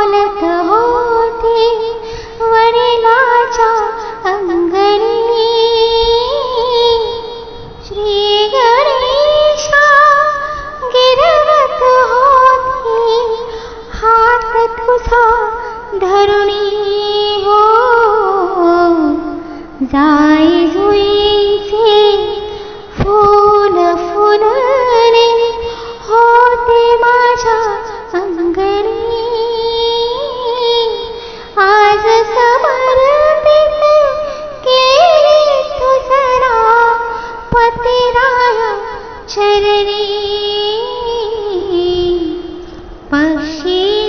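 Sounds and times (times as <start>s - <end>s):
woman singing: 0.0s - 44.0s.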